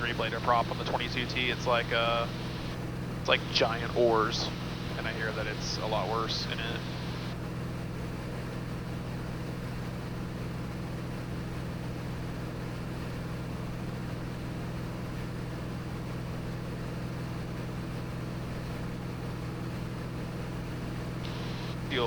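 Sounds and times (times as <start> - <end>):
aircraft engine droning in cabin: 0.0 - 22.0.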